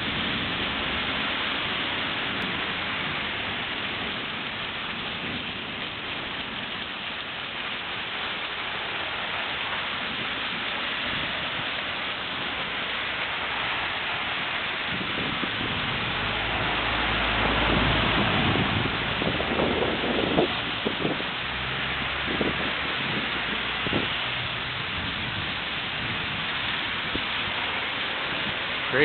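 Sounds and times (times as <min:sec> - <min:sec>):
heavy rain on pavement: 0:00.0 - 0:29.0.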